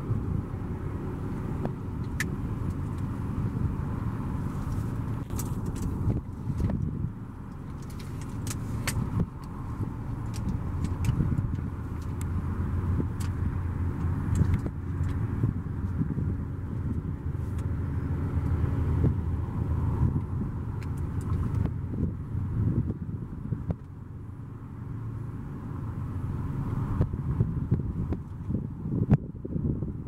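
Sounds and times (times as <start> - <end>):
engine idling hum: 0.0 - 30.0.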